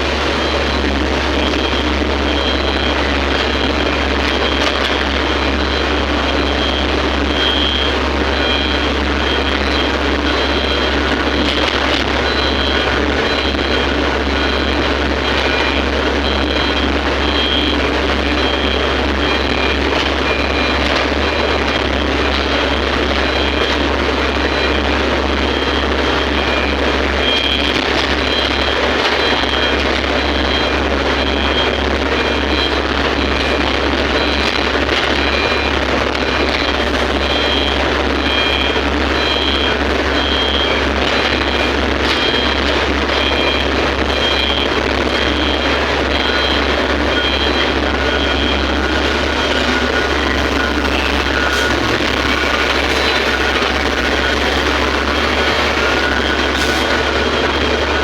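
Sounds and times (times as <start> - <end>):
excavator diesel engine running: 0.0 - 58.0
thin high whine: 0.0 - 58.0
faint high beeps: 0.2 - 58.0.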